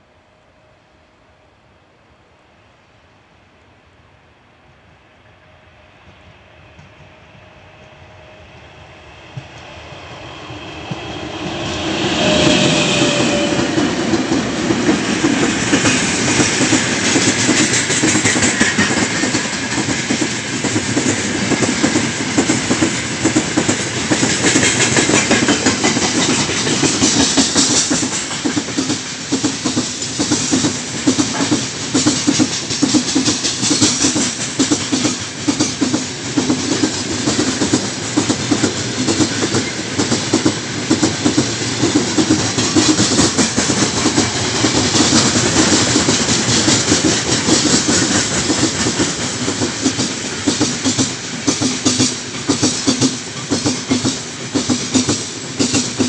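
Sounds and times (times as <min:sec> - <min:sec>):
electric locomotive passing: 0:00.0 - 0:56.0
wheels clickety-clack over rail joints: 0:09.3 - 0:56.0.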